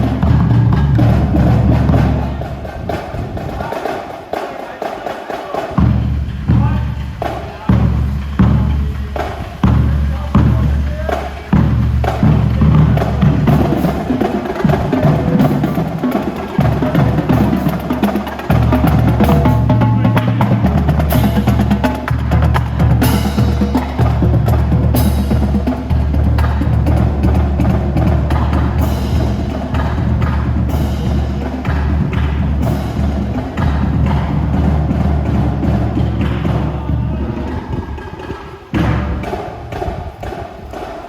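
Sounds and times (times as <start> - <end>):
bass drums: 0.0 - 3.9, 5.7 - 40.8
snare drums: 0.0 - 41.0.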